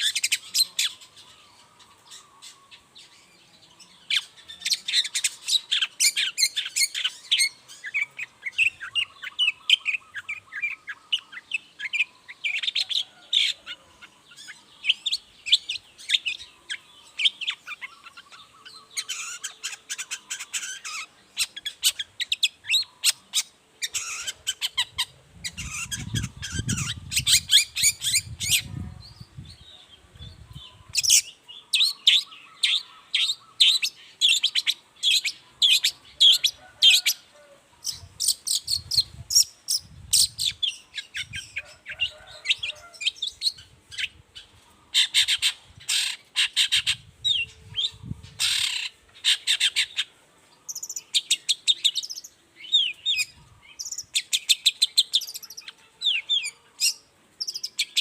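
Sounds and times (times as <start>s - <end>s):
bird chattering song: 0.0s - 37.2s, 37.8s - 58.0s.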